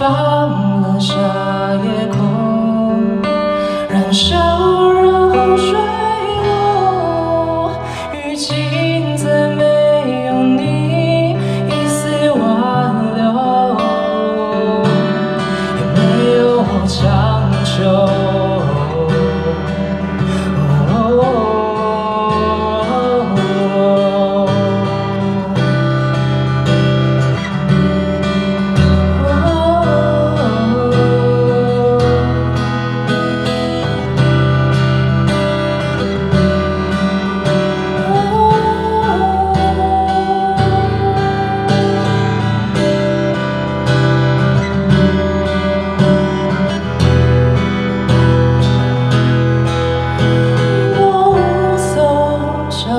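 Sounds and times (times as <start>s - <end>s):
person singing: 0.0s - 27.6s, 28.2s - 34.8s, 35.8s - 52.9s
acoustic guitar: 0.0s - 52.9s.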